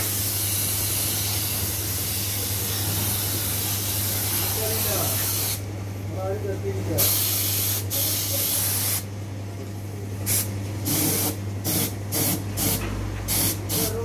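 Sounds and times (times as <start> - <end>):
paint sprayer hissing: 0.0 - 5.6, 7.0 - 9.1, 10.2 - 14.0.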